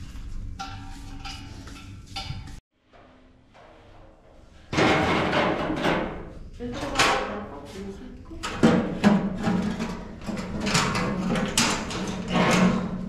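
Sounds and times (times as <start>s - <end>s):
metal griddle clattering and scraping: 0.0s - 7.3s, 8.6s - 13.0s.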